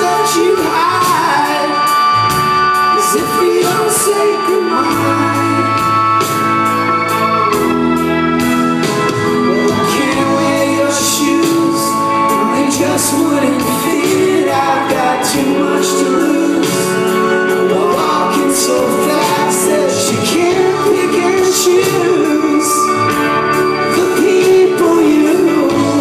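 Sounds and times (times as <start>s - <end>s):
person singing: 0.0s - 26.0s
rock band playing live: 0.0s - 26.0s.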